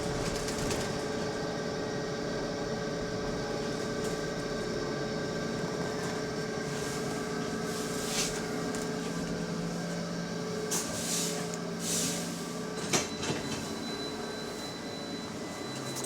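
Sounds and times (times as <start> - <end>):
bus engine drone and whine: 0.0 - 16.0.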